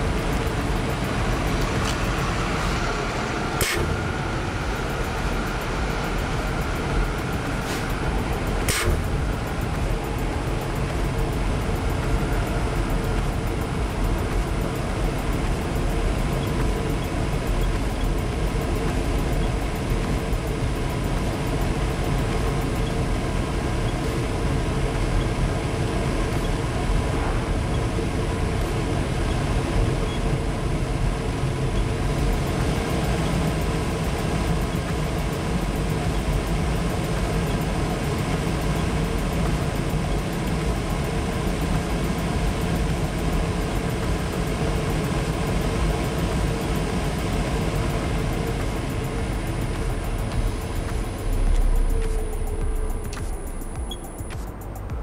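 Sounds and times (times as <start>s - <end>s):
dust collector fan running: 0.0s - 55.0s.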